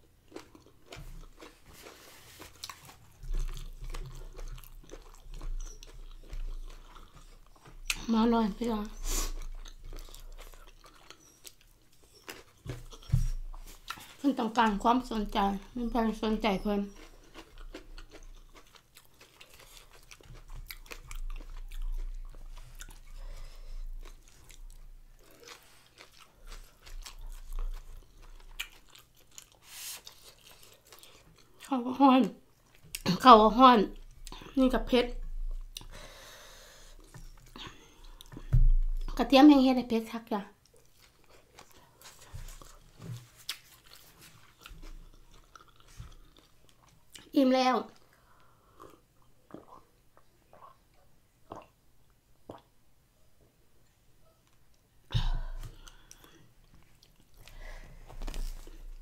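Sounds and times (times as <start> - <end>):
close-up chewing with crunches: 0.0 - 33.3, 33.9 - 39.2, 40.5 - 51.8, 55.4 - 59.0.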